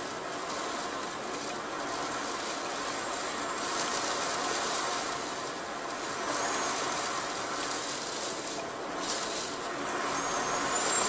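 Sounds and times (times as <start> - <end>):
wind-driven heavy rain: 0.0 - 11.0.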